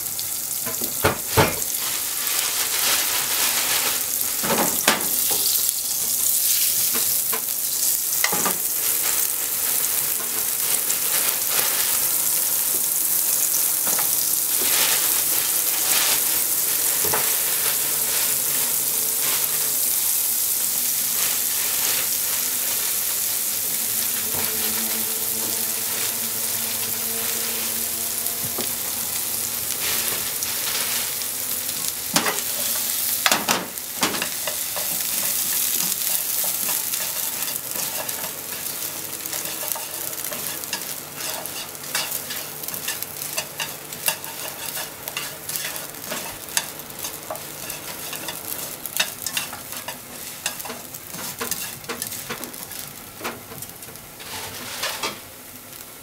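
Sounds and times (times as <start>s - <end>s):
bread sizzling in butter: 0.0s - 56.0s.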